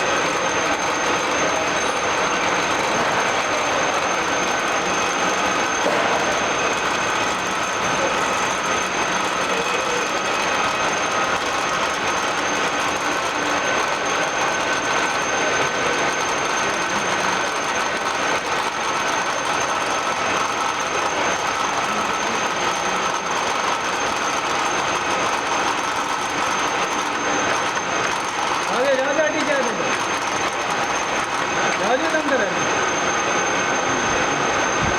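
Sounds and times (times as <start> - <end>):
high-pitched machine whine: 0.0 - 34.9
radial drilling machine running: 0.0 - 34.9.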